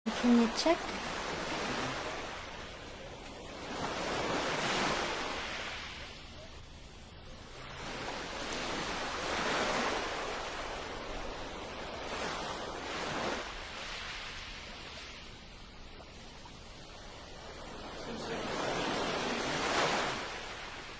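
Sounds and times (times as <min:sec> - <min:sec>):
ocean waves washing in: 0:00.1 - 0:20.9.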